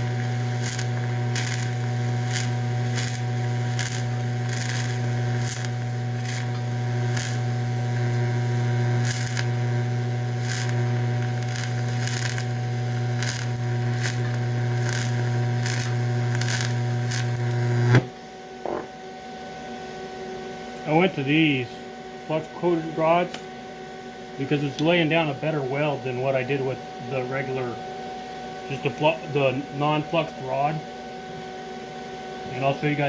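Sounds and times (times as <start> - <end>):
welding arc humming and crackling: 0.0 - 33.0.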